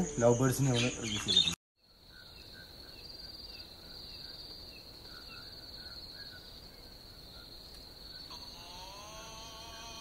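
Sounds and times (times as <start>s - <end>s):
insects trilling: 0.0s - 10.0s
short insect chirps: 0.0s - 10.0s.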